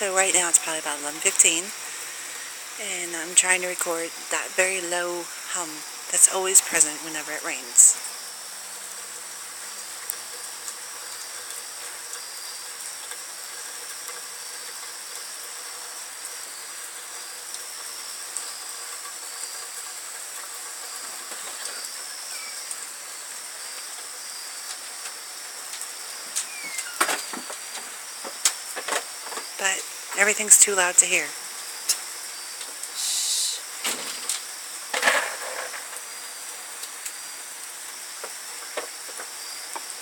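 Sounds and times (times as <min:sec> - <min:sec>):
rain hiss: 0:00.0 - 0:40.0.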